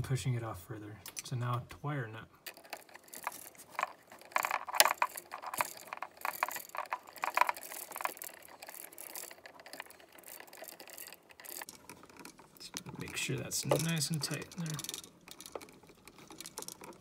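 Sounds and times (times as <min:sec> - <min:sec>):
wire nut twisting onto wires: 0:02.4 - 0:17.0.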